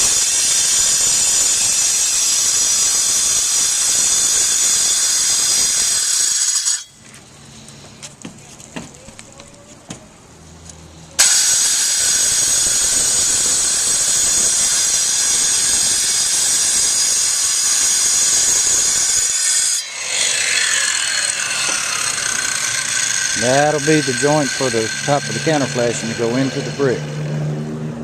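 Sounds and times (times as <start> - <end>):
power grinder cutting brick mortar: 0.0 - 6.9, 11.2 - 27.6.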